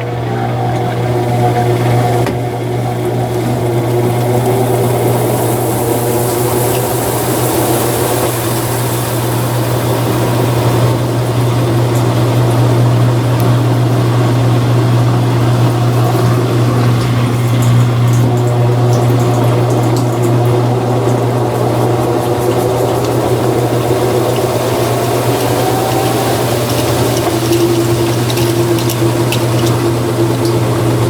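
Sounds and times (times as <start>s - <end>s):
washing machine drain pump humming: 0.0s - 31.0s
water gurgling: 0.0s - 31.0s.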